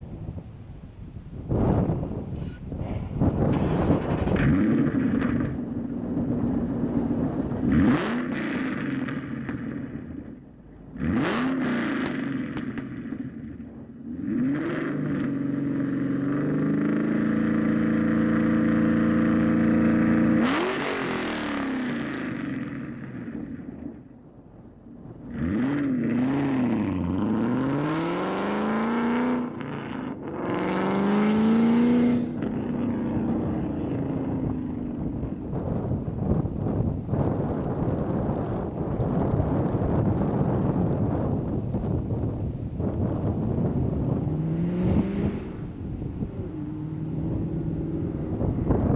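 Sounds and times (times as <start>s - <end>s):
loud car engine revving: 3.4s - 10.2s, 10.9s - 23.4s, 25.3s - 48.9s.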